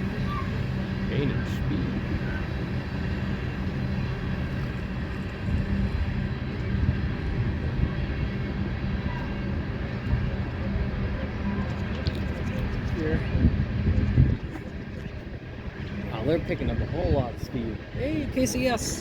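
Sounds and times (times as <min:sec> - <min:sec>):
diesel locomotive engines droning: 0:00.0 - 0:19.0
train wheels rumbling on rail: 0:00.0 - 0:19.0.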